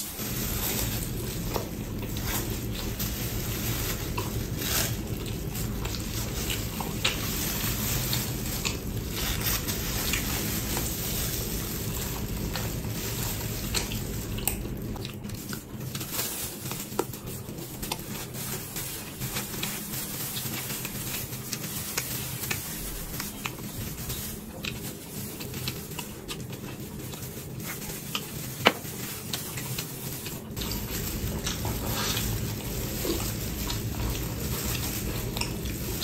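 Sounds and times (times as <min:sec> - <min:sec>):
biting and chewing food: 0:00.0 - 0:36.0
low steady hum: 0:00.0 - 0:36.0.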